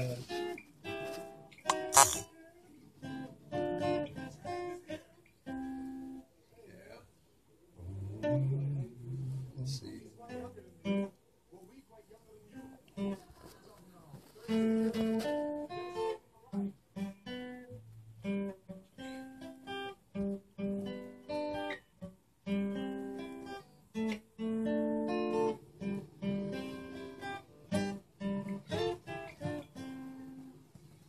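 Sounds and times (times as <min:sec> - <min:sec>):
guitar picking a melody: 0:00.0 - 0:06.3, 0:07.8 - 0:11.2, 0:12.4 - 0:31.0.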